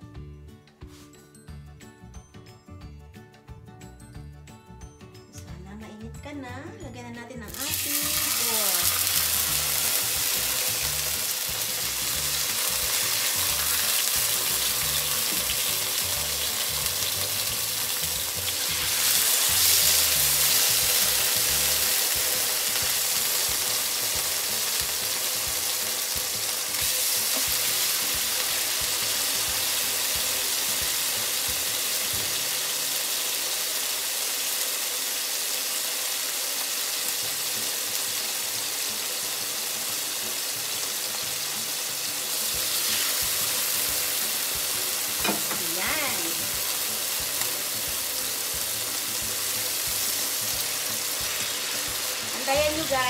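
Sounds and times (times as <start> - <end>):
pork chops sizzling in oil: 7.5 - 53.0.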